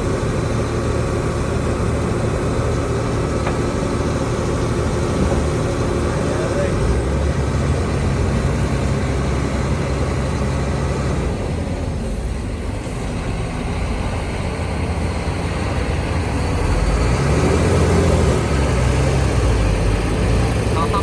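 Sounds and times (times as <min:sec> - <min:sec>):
heavy diesel engine droning: 0:00.0 - 0:21.0.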